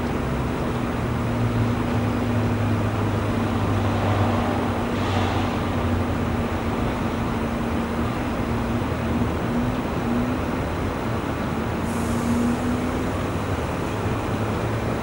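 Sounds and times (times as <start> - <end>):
distant airport and traffic drone: 0.0 - 15.0.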